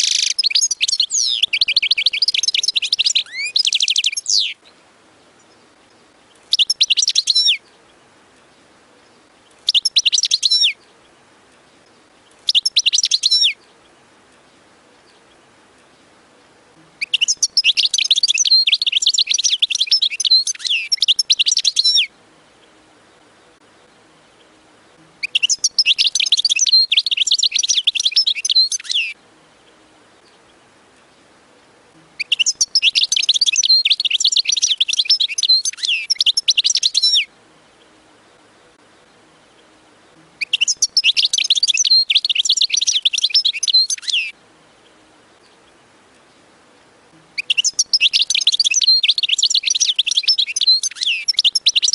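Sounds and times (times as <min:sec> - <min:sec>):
bird twittering song: 0:00.0 - 0:51.9.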